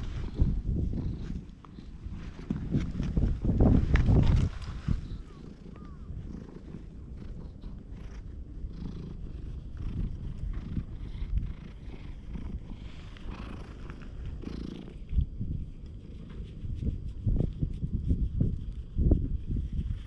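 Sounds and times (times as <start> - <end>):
cat purring: 0.0 - 20.0
rustling of fur and hand: 0.0 - 20.0.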